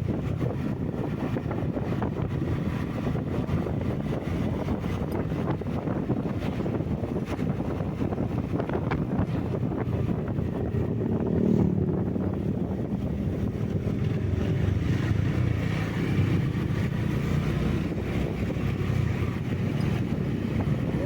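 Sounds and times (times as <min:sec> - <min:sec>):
road noise: 0:00.0 - 0:21.0
vehicle engine rumble: 0:00.0 - 0:21.0.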